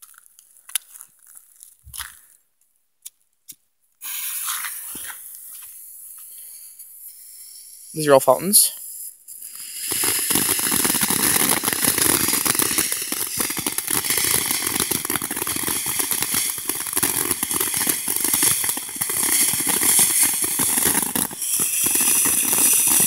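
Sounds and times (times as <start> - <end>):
firework fountain hissing and crackling: 4.0 - 23.0.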